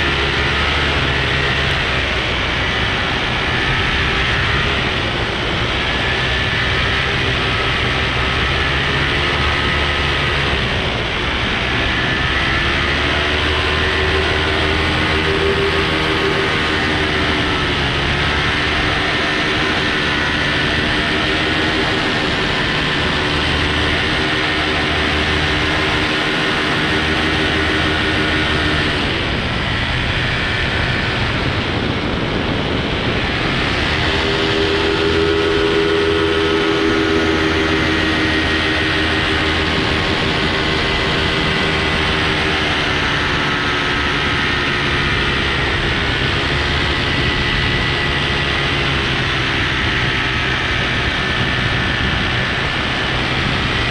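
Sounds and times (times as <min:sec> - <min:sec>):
propeller engines droning: 0:00.0 - 0:53.9
rushing noise: 0:00.0 - 0:53.9.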